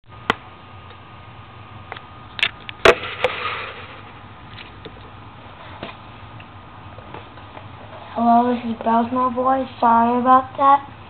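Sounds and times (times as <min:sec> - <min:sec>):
electrical hum: 0:00.1 - 0:11.0.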